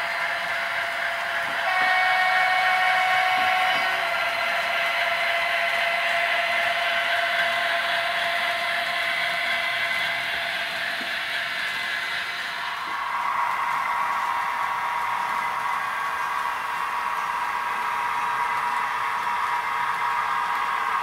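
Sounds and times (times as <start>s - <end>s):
model locomotive motor whining: 0.0s - 21.0s
wheels hissing on rails: 0.0s - 21.0s.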